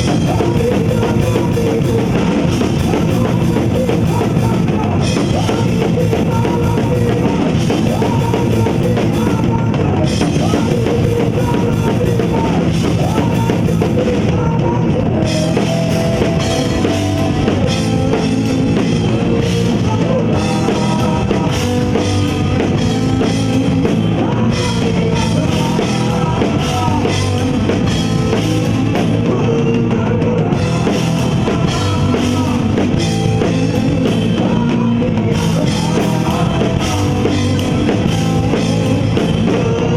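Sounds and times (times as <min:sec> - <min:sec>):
drum kit: 0:00.0 - 0:39.9
live rock music: 0:00.0 - 0:39.9.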